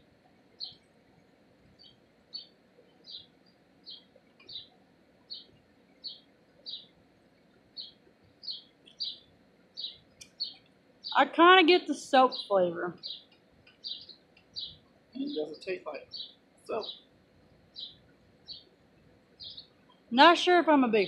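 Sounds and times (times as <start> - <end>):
low background hiss: 0.0 - 21.0.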